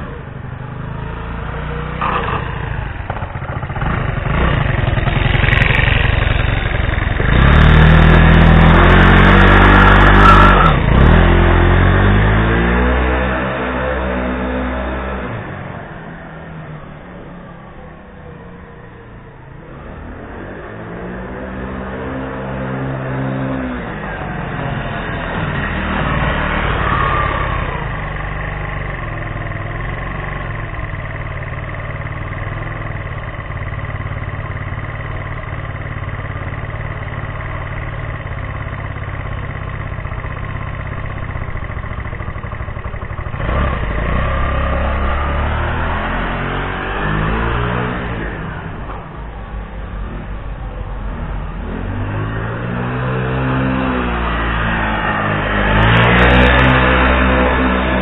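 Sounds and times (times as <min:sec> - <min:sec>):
motor scooter engine accelerating: 0:00.0 - 0:58.0.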